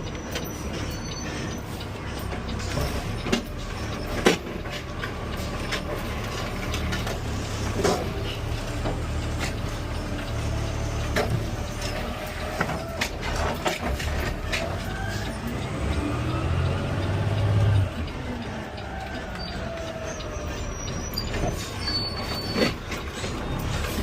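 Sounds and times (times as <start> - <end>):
garbage truck engine drone: 0.0 - 24.0.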